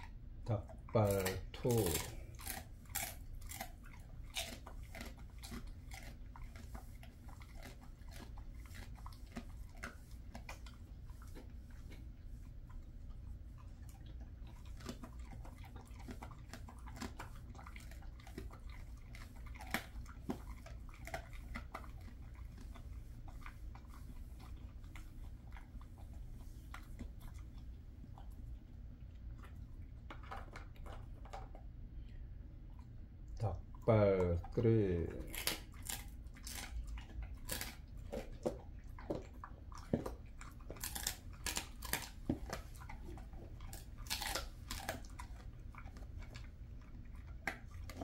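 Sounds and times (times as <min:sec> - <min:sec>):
dog chewing hard treat: 0:00.0 - 0:31.8, 0:32.7 - 0:48.0.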